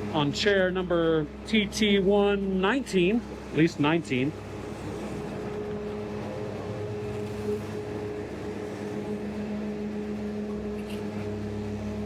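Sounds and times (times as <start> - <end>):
chairlift mechanical hum: 0.0 - 12.0.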